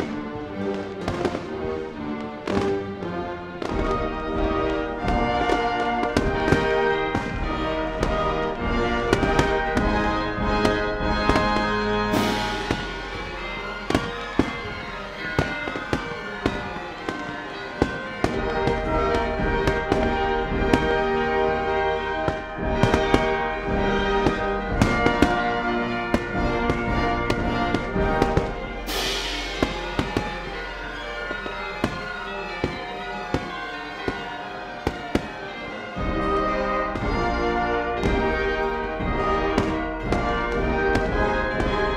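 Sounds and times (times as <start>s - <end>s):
fireworks bangs and cracks: 0.0s - 41.9s
music: 0.0s - 41.9s.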